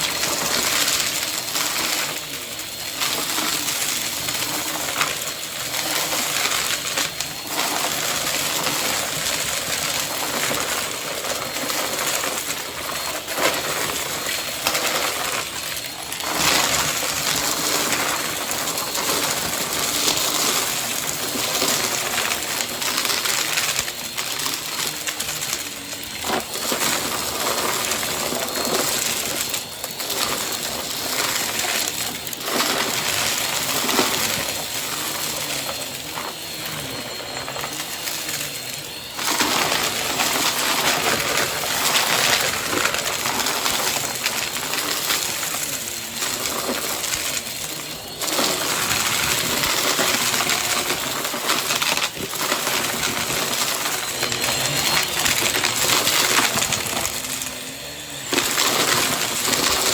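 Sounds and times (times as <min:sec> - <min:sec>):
clicks and rattles: 0:00.0 - 0:59.9
vacuum cleaner running: 0:00.0 - 0:59.9.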